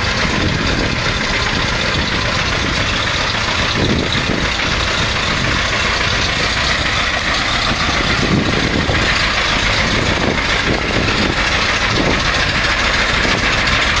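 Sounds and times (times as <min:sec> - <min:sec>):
constant rushing noise: 0:00.0 - 0:14.0
vehicle engine running: 0:00.0 - 0:14.0.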